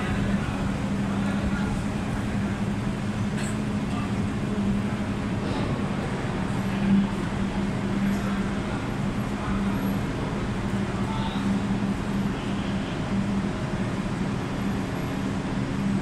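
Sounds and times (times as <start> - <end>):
machinery drone: 0.0 - 16.0.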